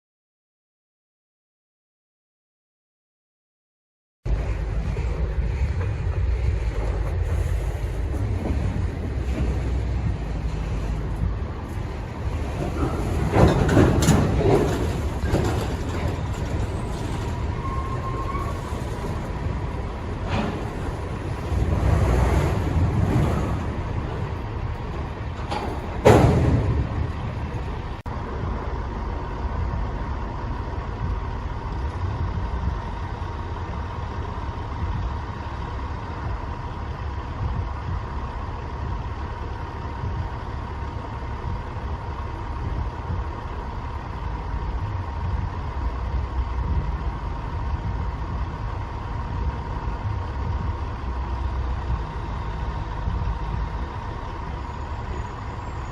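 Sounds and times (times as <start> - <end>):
diesel locomotives rumbling: 4.3 - 55.9.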